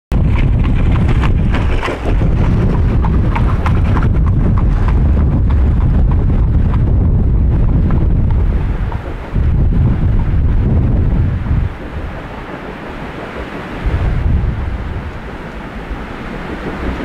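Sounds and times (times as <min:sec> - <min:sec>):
heavy low rumble: 0:00.1 - 0:17.0
steam locomotive exhaust chuffs: 0:00.1 - 0:17.0.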